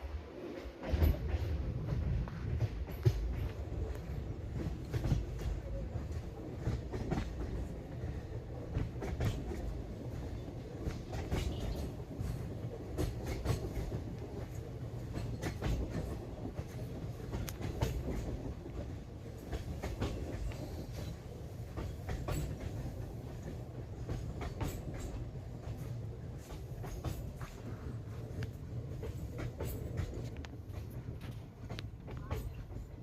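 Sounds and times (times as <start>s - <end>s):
train rumbling on track: 0.0s - 33.0s.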